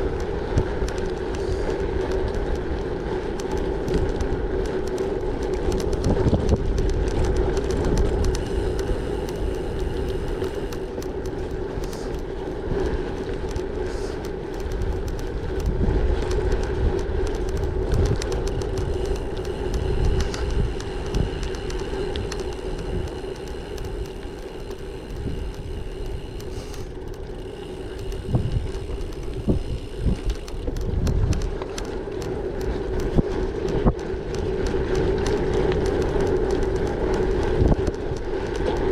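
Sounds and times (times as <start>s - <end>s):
bike clicks and rattles: 0.0s - 38.9s
tyre hum: 0.0s - 38.9s
wind buffeting microphone: 0.0s - 38.9s.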